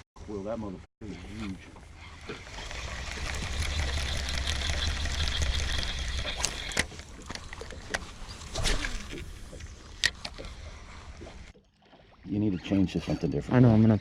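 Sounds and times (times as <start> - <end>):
water lapping around boat: 1.0 - 14.0.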